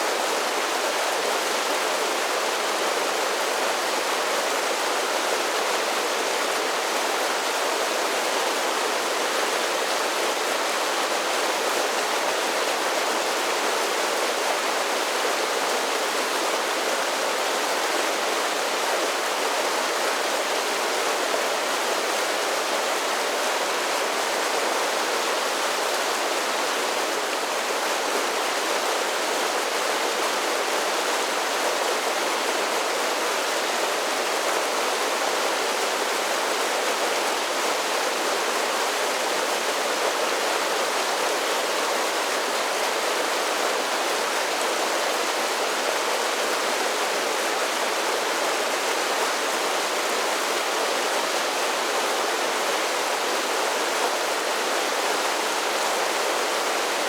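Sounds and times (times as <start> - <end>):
creek cascading over waterfalls: 0.0 - 57.0.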